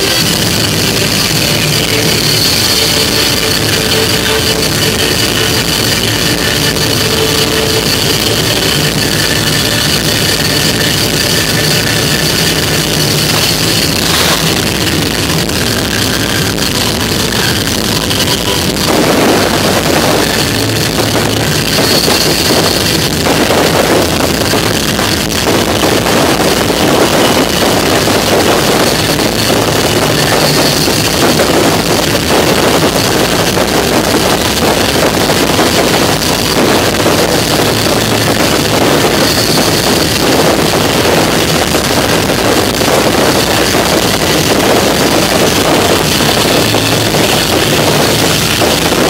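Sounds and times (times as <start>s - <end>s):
fireworks bangs and crackling: 0.0s - 49.0s
music: 0.0s - 49.0s.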